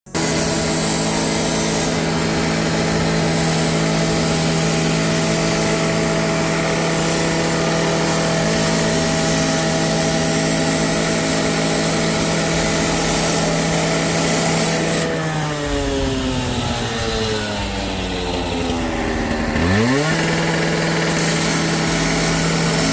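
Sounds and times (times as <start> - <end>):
gas-powered saw cutting: 0.0 - 22.9.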